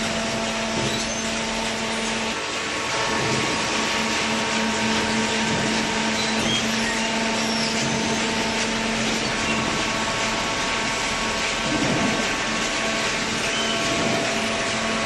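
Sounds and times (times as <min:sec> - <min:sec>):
baler machine drone: 0:00.0 - 0:15.0.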